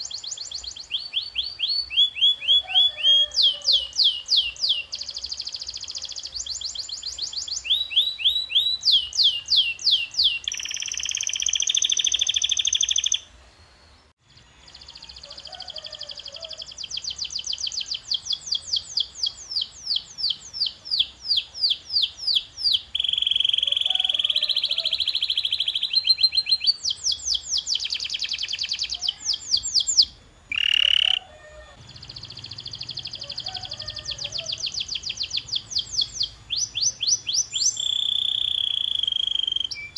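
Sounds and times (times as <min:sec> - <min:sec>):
canary singing: 0:00.0 - 0:13.3, 0:14.6 - 0:39.9.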